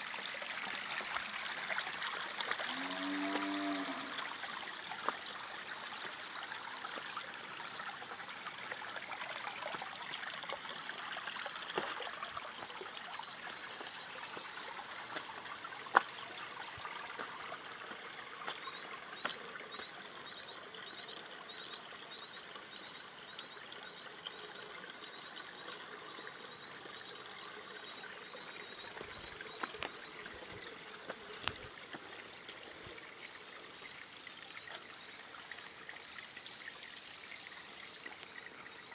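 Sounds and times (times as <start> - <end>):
stream splashing over stones: 0.0 - 38.9.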